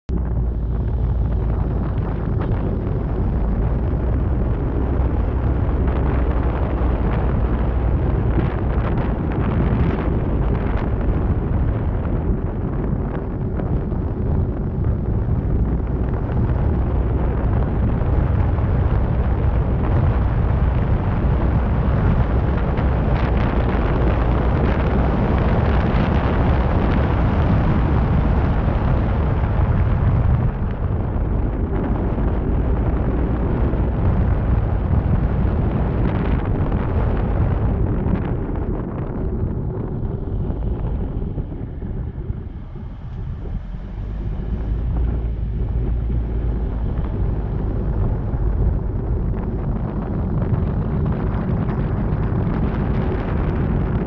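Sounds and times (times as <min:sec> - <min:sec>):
car road and wind rumble: 0:00.0 - 0:54.0
wind gusts on microphone: 0:00.1 - 0:54.0.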